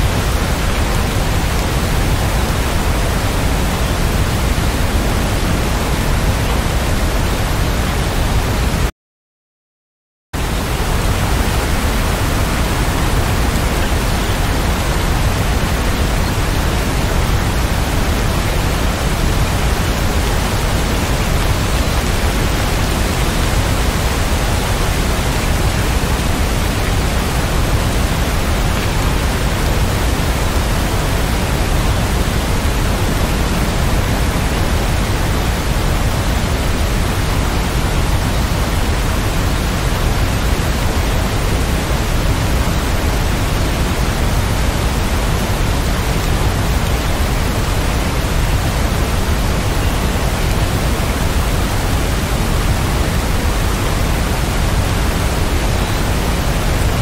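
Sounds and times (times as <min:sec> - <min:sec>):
heavy rain hiss: 0:00.0 - 0:08.6, 0:10.4 - 0:57.0.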